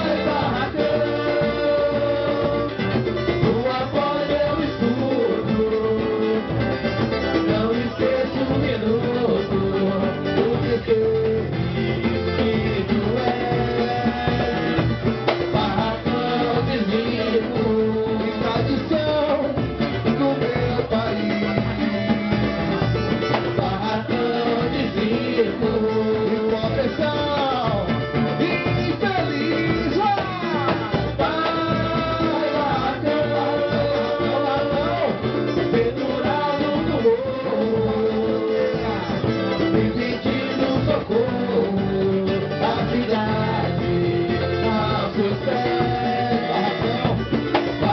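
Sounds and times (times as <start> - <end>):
live samba band playing: 0.0 - 47.9
person singing: 0.0 - 47.9
steady percussion: 0.0 - 47.9.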